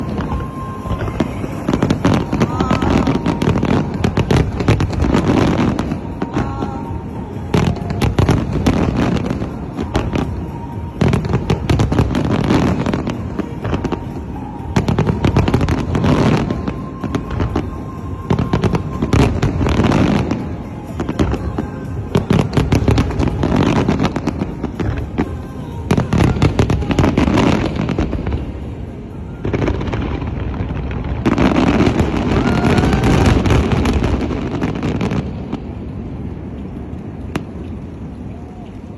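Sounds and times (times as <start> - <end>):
fireworks bangs and crackles: 0.0 - 38.9
music playing: 0.0 - 38.9.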